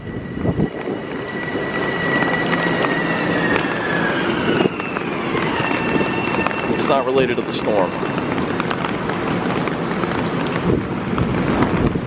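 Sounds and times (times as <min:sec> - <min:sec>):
electric train motor whine: 0:00.0 - 0:09.9.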